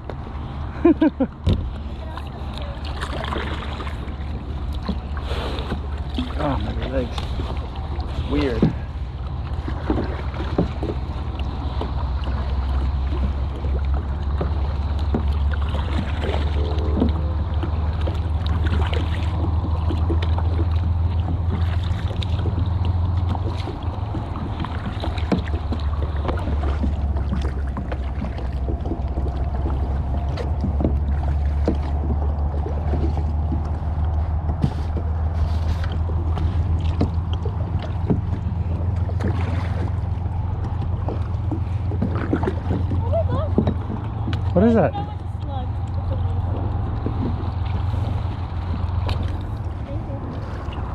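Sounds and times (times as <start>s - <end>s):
paddle splashes and drips: 0.0s - 50.9s
steady low rumble: 0.0s - 50.9s.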